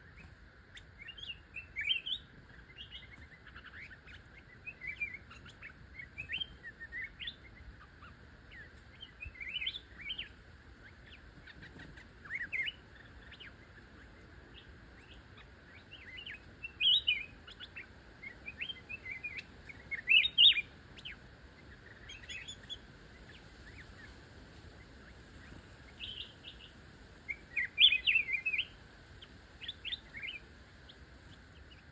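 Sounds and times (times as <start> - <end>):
faint high hiss: 0.0 - 31.9
songbird chirping and whistling: 0.0 - 31.9.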